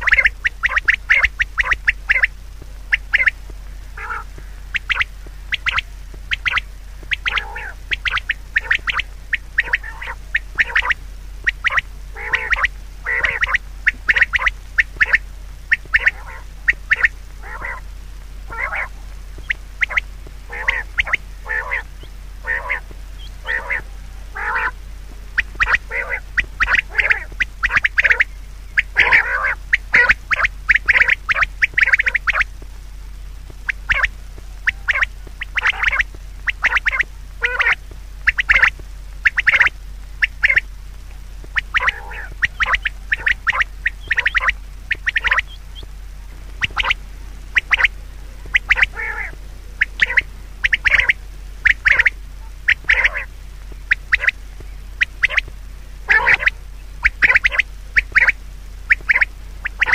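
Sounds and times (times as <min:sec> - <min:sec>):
harsh bird calls: 0:00.0 - 0:32.5, 0:33.1 - 0:59.9
steady low hum: 0:00.0 - 0:59.9.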